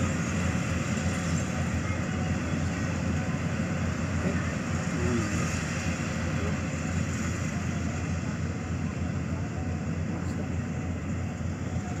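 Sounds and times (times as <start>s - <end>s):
combine harvesters running: 0.0s - 12.0s.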